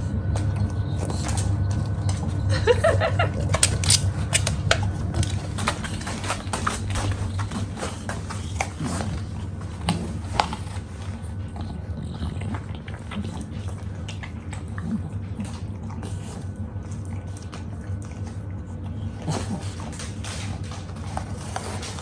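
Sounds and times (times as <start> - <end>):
steady low hum: 0.0 - 22.0
dog teeth crunching apple: 0.1 - 22.0.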